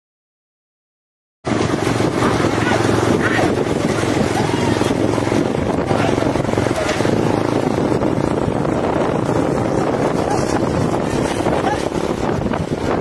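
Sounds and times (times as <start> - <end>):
vehicle engine running: 1.5 - 13.0
wind buffeting microphone: 1.5 - 13.0.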